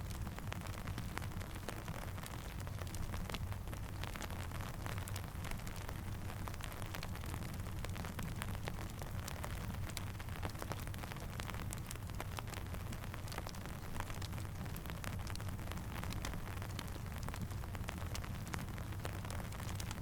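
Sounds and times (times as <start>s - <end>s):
campfire crackling: 0.0s - 20.0s
steady rain: 0.0s - 20.0s.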